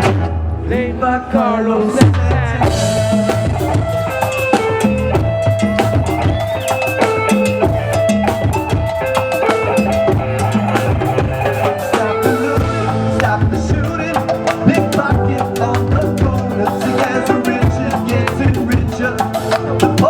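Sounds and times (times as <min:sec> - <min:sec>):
bass: 0:00.0 - 0:20.0
drum kit: 0:00.0 - 0:20.0
sustained guitar or keyboard notes: 0:00.0 - 0:20.0
hand percussion: 0:02.6 - 0:20.0.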